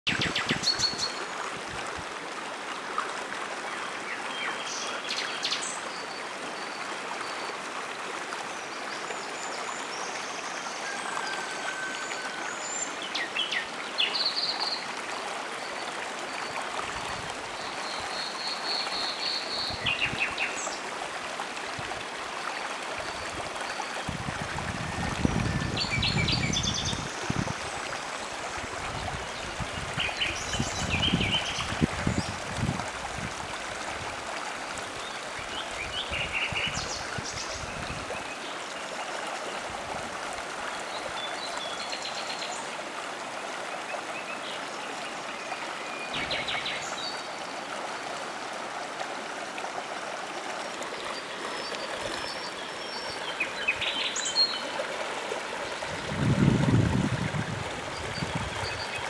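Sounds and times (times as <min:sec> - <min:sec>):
river flowing over stones: 0:00.1 - 0:59.0.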